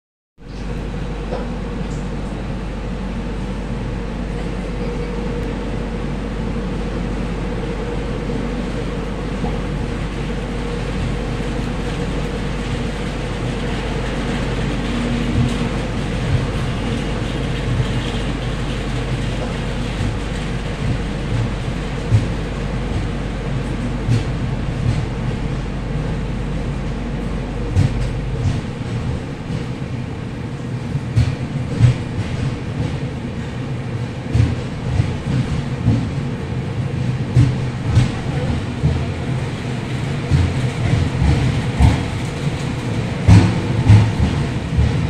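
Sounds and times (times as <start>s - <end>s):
train running noise on board: 0.4s - 45.0s.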